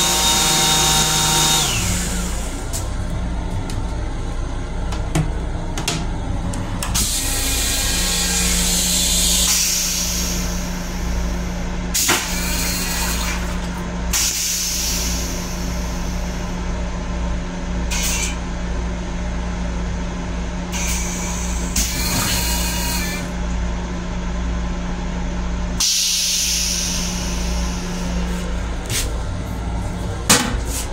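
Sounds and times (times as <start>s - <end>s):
electric train hum and rumble: 0.0s - 30.9s.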